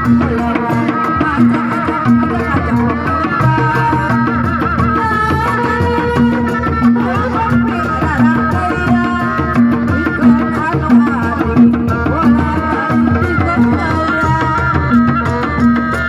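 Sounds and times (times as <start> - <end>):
hand drums beat: 0.0 - 16.0
wavering high melody: 0.0 - 16.0.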